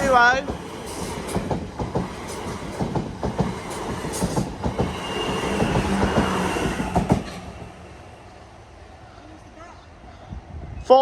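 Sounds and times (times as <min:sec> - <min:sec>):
train running past: 0:00.0 - 0:10.6.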